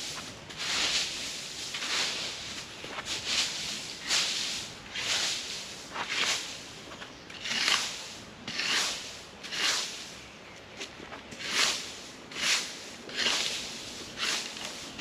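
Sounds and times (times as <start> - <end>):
broom sweeping: 0.0 - 7.0, 7.6 - 10.2, 11.3 - 15.0.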